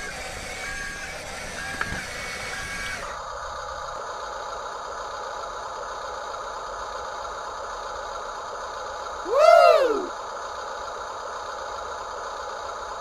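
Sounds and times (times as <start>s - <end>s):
simulated diesel engine idle: 0.0s - 13.0s.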